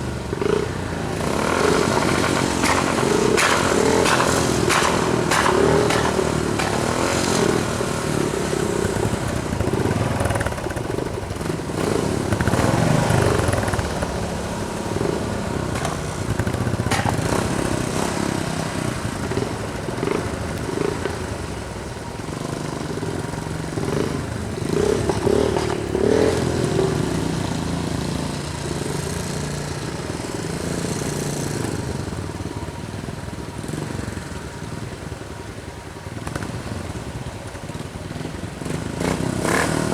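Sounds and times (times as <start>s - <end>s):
vehicle engines idling and revving: 0.0s - 39.9s.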